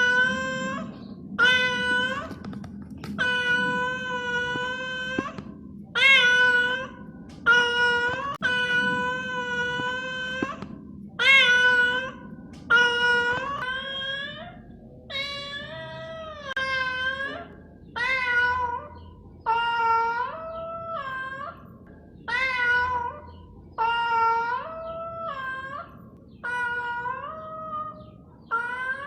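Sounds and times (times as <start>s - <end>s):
cat meowing: 0.0s - 2.5s, 3.1s - 18.9s, 22.3s - 29.0s.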